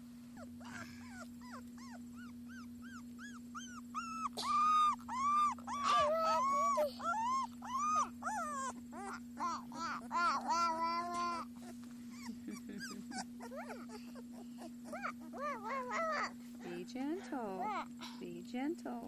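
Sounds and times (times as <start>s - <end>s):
puppies whimpering and crying: 0.3s - 16.8s, 17.4s - 18.0s.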